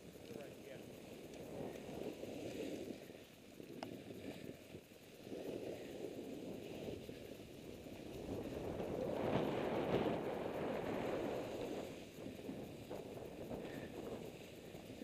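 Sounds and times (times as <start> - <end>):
skis scraping through snow: 0.0 - 15.0
wind on microphone: 0.0 - 15.0.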